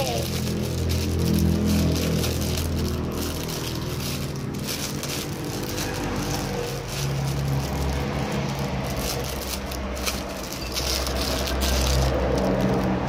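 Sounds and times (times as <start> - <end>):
low motor rumble: 0.0 - 13.0
plastic wrapper crinkling: 0.0 - 13.0.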